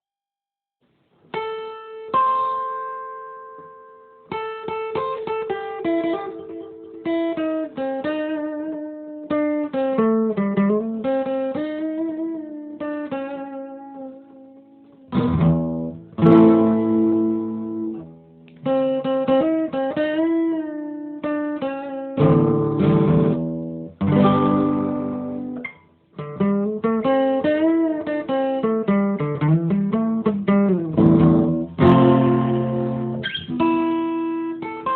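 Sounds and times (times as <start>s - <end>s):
solo guitar playing: 1.3s - 34.9s.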